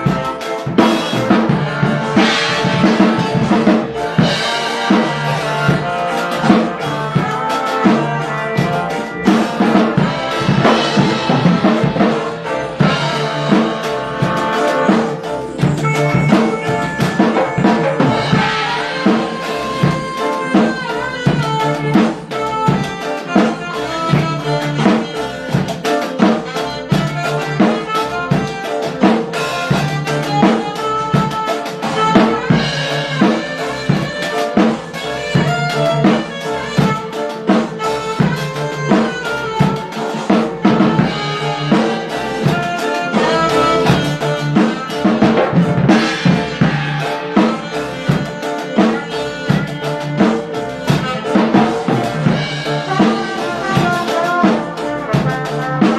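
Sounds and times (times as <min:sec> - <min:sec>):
drums and brass music: 0:00.0 - 0:55.9.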